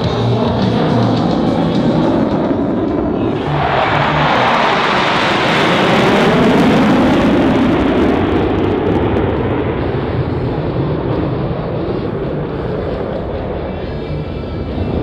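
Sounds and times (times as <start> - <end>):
jet roar: 0.0 - 15.0.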